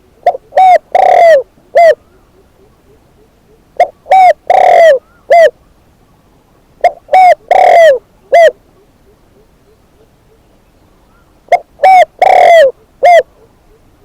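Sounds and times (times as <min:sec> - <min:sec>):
dove cooing: 0:00.0 - 0:05.6, 0:06.8 - 0:14.0.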